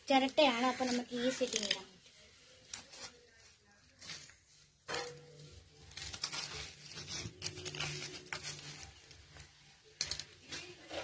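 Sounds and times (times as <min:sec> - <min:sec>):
newspaper crinkling: 0:00.6 - 0:11.0.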